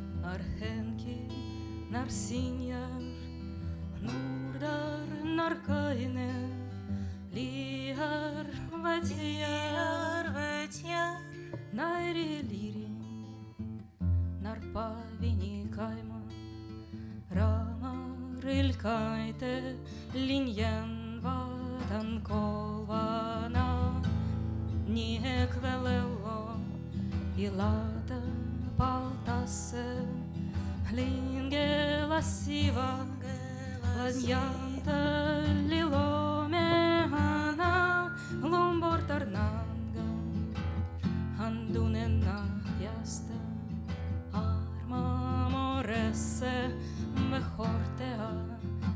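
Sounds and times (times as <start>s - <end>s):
strummed acoustic guitar: 0.0s - 48.9s
woman singing: 0.0s - 48.9s.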